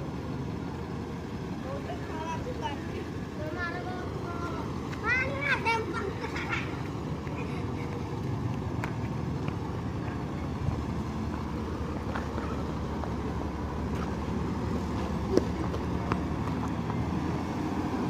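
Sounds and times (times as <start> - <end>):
low engine rumble: 0.0 - 18.0.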